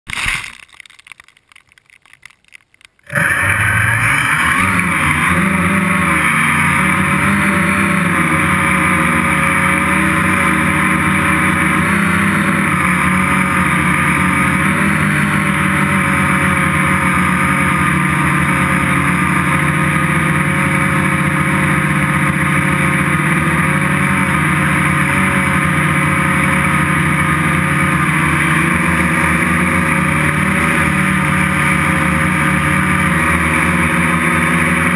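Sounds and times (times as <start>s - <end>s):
quadcopter motors and propellers: 3.1s - 34.9s.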